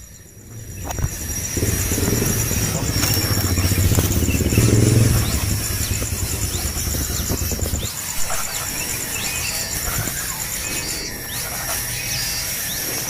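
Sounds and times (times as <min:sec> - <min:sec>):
low engine hum: 0:00.0 - 0:12.0
pulsing high insect trill: 0:00.0 - 0:13.0
small birds chirping: 0:00.0 - 0:13.0.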